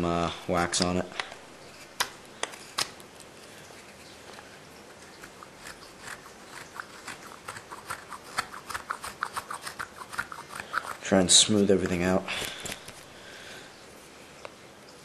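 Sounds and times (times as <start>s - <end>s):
knife shaving wood: 0.5s - 13.1s.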